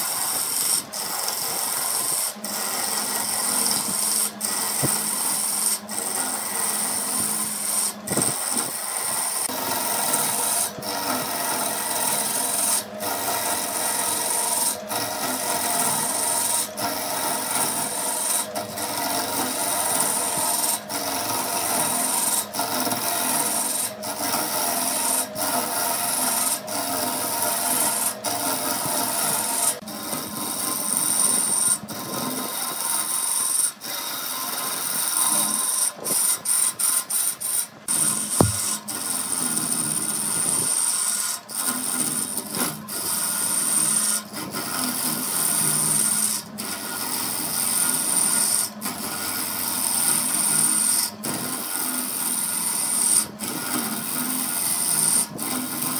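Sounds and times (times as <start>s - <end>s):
tool rasping against wood: 0.0s - 55.9s.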